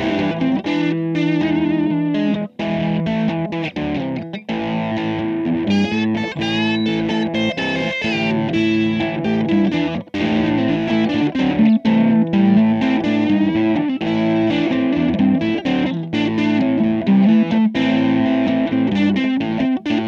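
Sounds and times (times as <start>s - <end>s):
electric guitar riff: 0.0s - 20.0s.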